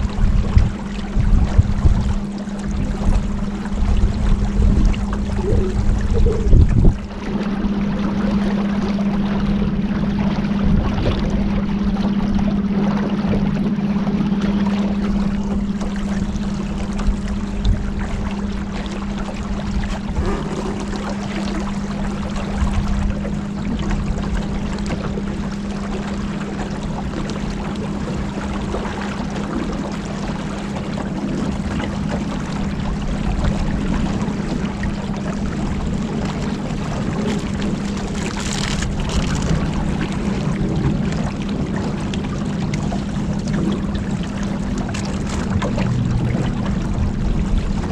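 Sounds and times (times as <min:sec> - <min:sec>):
motorboat engine running: 0:00.0 - 0:47.9
water and wind rushing: 0:00.0 - 0:47.9.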